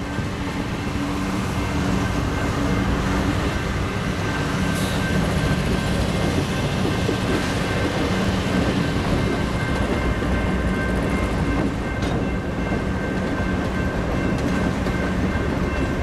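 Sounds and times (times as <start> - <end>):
diesel locomotive engines droning: 0.0 - 16.0
rumble of wheels on rails: 0.0 - 16.0.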